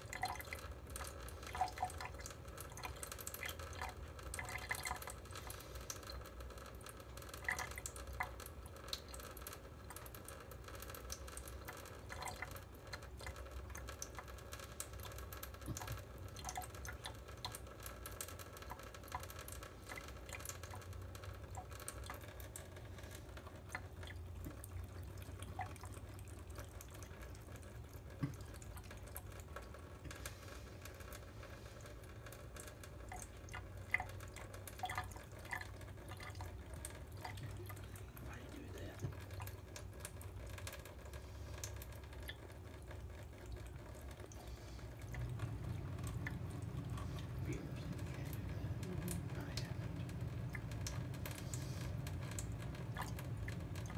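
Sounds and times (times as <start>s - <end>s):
cat lapping water: 0.0s - 53.9s
small drips and ticks: 0.0s - 53.9s
tap water trickling into sink: 0.0s - 53.9s.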